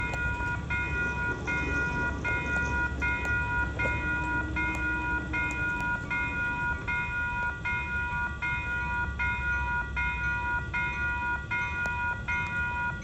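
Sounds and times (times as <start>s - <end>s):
crossing warning bell ringing: 0.0s - 13.0s.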